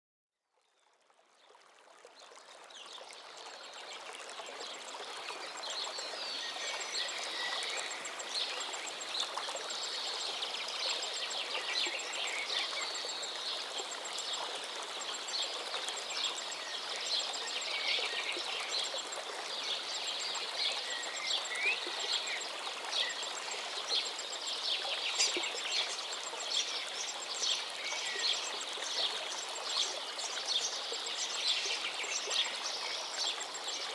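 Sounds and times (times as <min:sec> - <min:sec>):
flowing stream water: 0:00.5 - 0:33.9.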